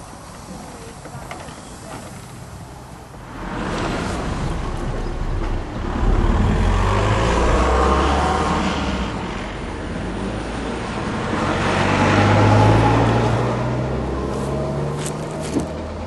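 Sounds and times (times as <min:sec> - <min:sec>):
vehicles passing: 0:02.3 - 0:16.0.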